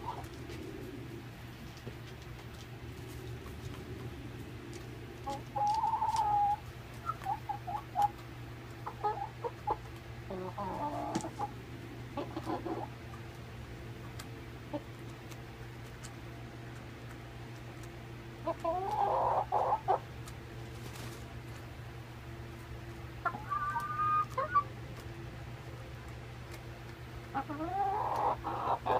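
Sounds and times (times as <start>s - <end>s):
hens clucking: 0.0s - 28.9s
steady low hum: 0.0s - 28.9s.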